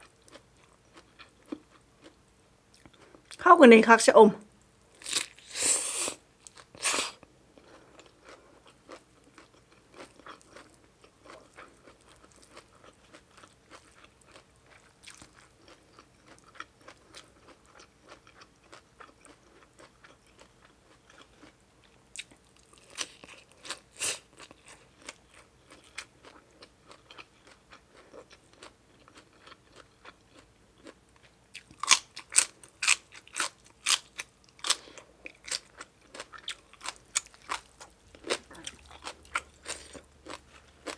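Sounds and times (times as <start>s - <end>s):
chewing crunchy food: 0.0s - 3.4s, 4.9s - 40.9s.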